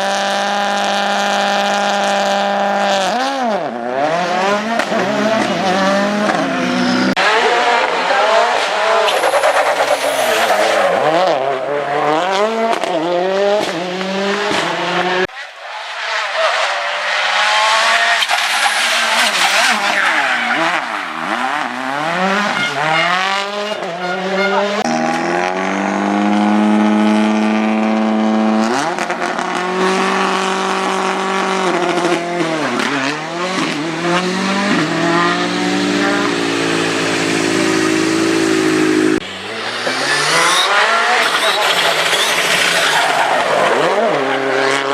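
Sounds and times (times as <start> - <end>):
rally car engine revving hard: 0.0 - 15.3, 16.5 - 44.9.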